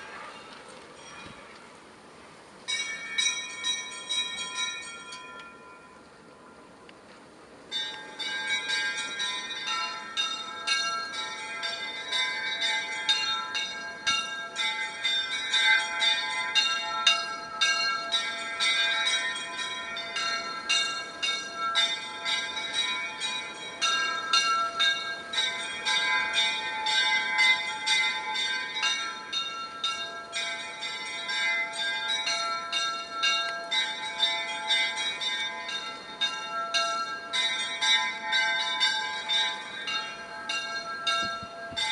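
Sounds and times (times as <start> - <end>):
church bells ringing a peal: 0.0 - 1.6, 2.7 - 6.7, 7.7 - 41.9.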